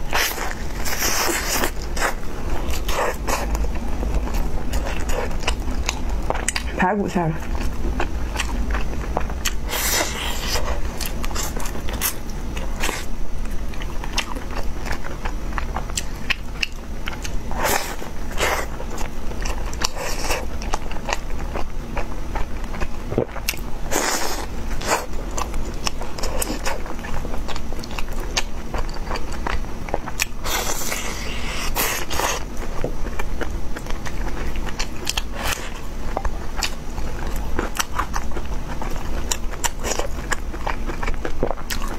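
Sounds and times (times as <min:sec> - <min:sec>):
person chewing: 0:00.0 - 0:06.8, 0:07.4 - 0:41.9.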